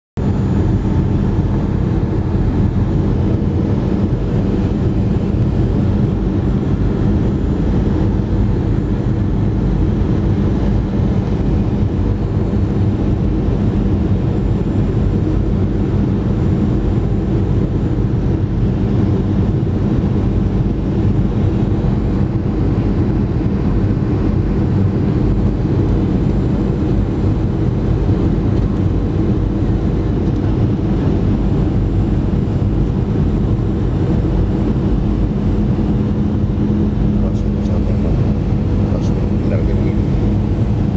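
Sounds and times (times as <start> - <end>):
aircraft cabin engine rumble: 0.2 - 40.9
faint steady whine: 0.2 - 40.9.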